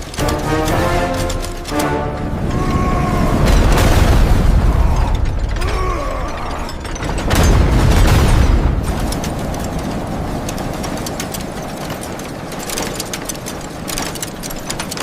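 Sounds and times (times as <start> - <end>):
heavy machinery rumbling: 0.0 - 15.0
metallic clanking: 0.0 - 15.0.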